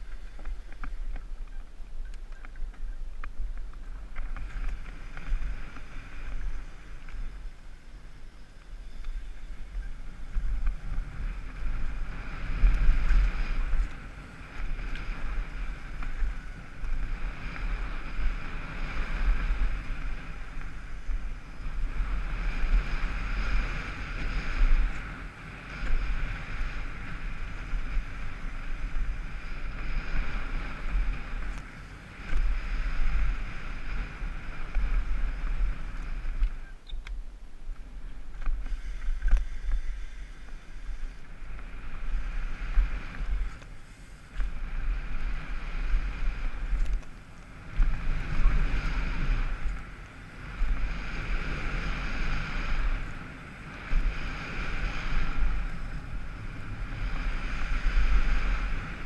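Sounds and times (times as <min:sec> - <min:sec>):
bike tyres rolling on dirt: 0:00.0 - 0:59.0
wind buffeting microphone: 0:00.0 - 0:59.0.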